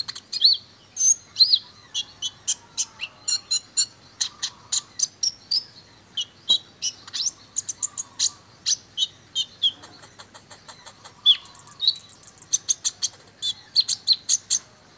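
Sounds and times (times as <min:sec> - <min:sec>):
bird singing high chirps: 0:00.0 - 0:14.8.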